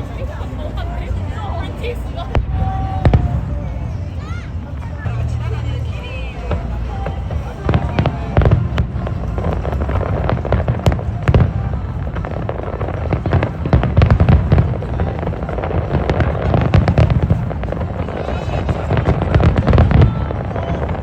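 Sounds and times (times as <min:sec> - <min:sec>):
low rumble: 0:00.0 - 0:21.0
fireworks bangs and crackles: 0:00.1 - 0:21.0.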